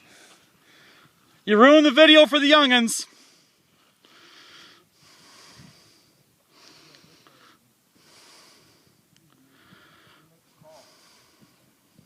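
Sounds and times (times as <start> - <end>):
person breathing hard: 0.0 - 1.2, 3.1 - 12.0.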